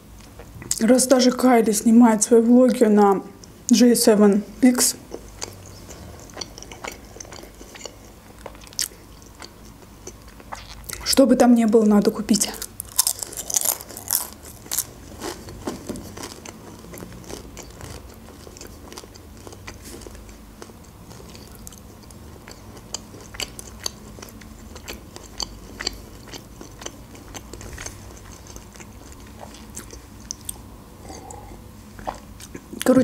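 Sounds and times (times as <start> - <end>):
chewing with mouth clicks: 5.0 - 11.1, 12.5 - 32.9.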